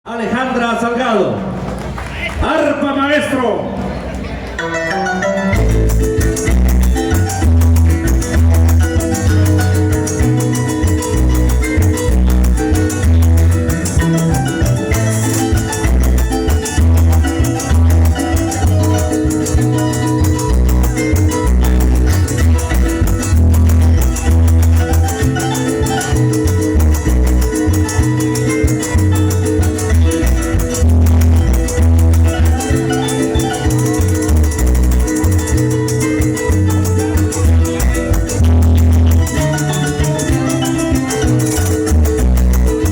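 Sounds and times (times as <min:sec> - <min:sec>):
plucked harp melody: 0:04.6 - 0:42.9
strummed small guitar: 0:04.6 - 0:42.9
deep bass notes: 0:05.5 - 0:42.9
maracas shaking: 0:05.7 - 0:42.9.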